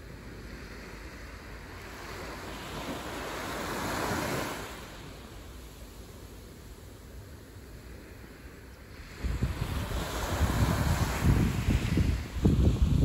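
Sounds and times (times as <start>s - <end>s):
sea waves washing onto beach: 0.0s - 13.0s.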